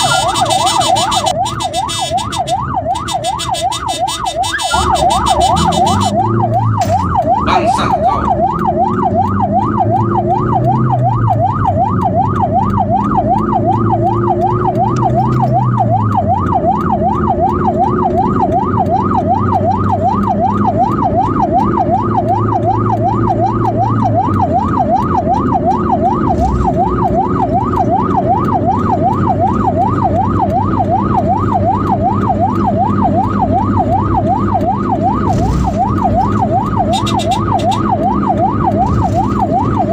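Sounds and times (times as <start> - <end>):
ambulance siren yelping: 0.0 - 39.9
vehicle engine rumble: 0.0 - 39.9.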